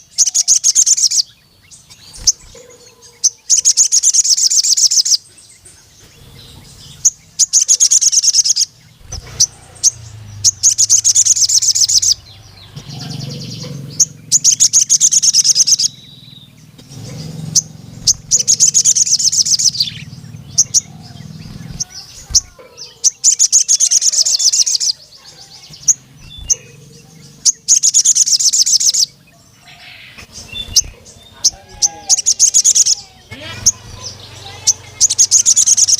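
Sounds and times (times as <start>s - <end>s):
bird buzzy trills: 0.0s - 35.9s
bird sharp chips: 0.0s - 35.9s.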